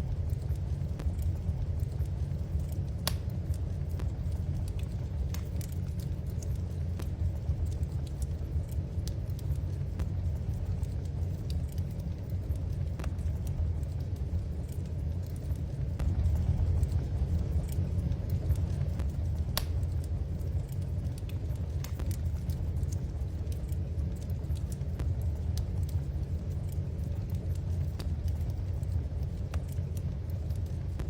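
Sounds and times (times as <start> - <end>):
steady low rumble: 0.0 - 31.0
wood fire crackling: 0.0 - 31.0.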